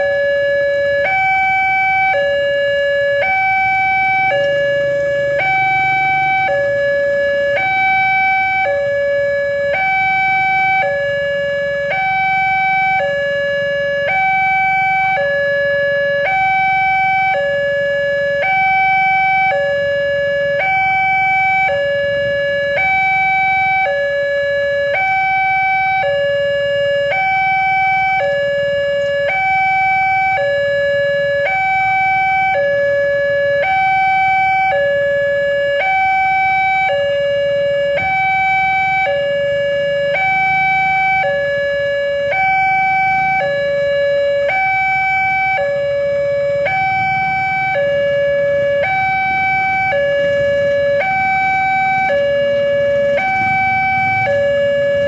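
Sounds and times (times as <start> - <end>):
level crossing two-tone alarm: 0.0 - 55.0.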